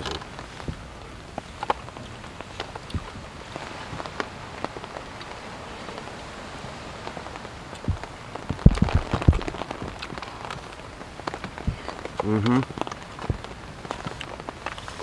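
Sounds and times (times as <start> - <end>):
rain on tent fabric: 0.0 - 15.0.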